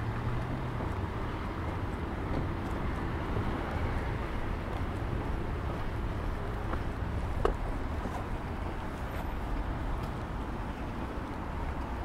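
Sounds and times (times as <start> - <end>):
city street rumble and hiss: 0.0 - 12.0.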